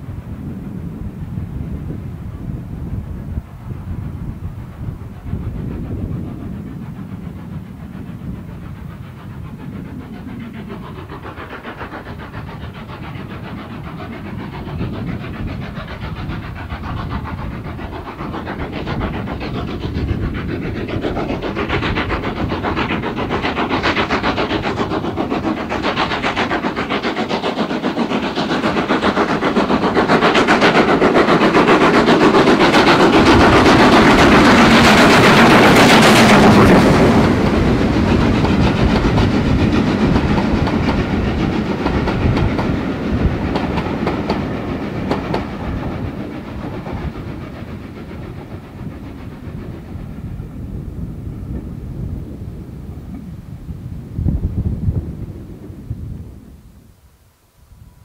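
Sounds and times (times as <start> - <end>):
steam locomotive chuffing: 0.0 - 55.9.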